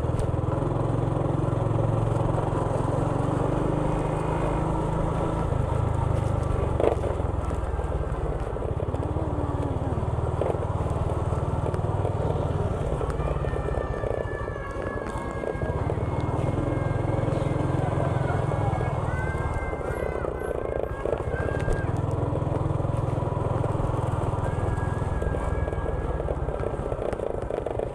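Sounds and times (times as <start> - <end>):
road noise: 0.0 - 27.9
small motorcycle engine running: 0.0 - 27.9.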